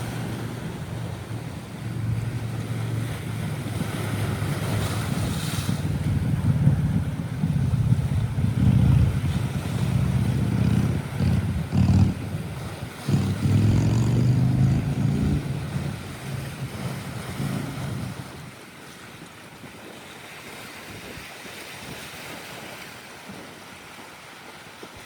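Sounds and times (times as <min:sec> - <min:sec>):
sea waves washing in: 0:00.0 - 0:25.0
wind buffeting the microphone: 0:00.0 - 0:25.0.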